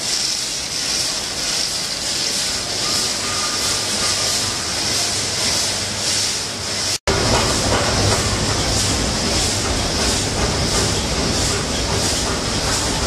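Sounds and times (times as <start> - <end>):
packaging machinery clatter: 0.0 - 13.0
rhythmic machine hiss: 0.0 - 13.0.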